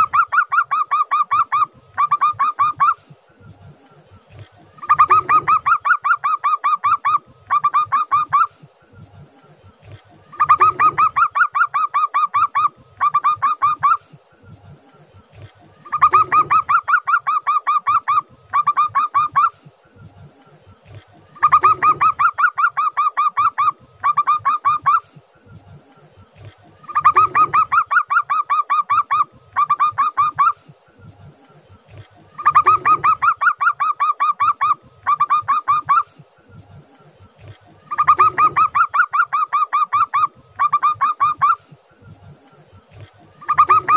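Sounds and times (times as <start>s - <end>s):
dove staccato cooing song: 0.0s - 43.9s.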